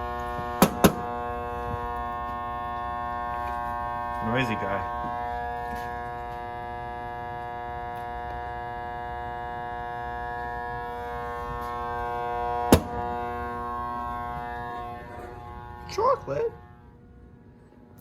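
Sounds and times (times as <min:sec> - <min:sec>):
electrical buzzing hum: 0:00.0 - 0:18.0.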